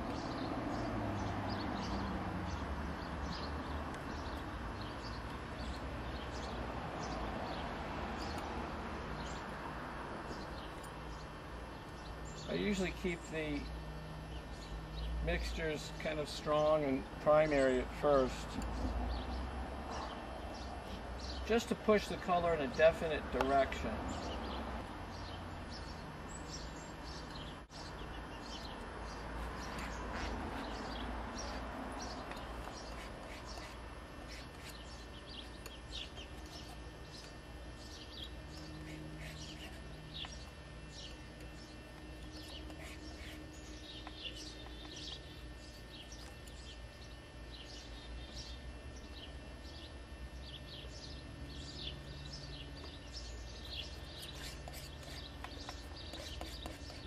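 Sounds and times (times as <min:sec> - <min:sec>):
small birds chirping: 0:00.0 - 0:09.6, 0:10.2 - 0:57.0
low background hum: 0:00.0 - 0:57.0.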